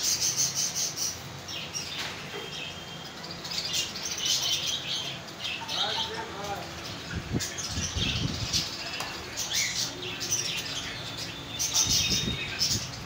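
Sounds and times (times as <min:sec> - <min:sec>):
parrots chirping: 0:00.0 - 0:13.0.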